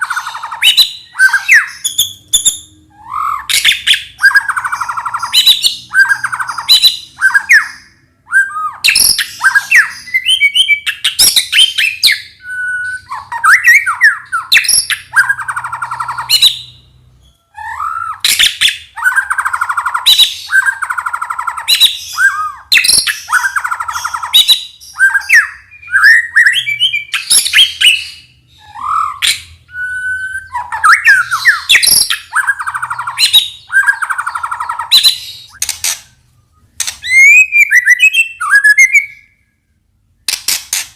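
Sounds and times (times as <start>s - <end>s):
bird singing varied song: 0.0s - 40.8s.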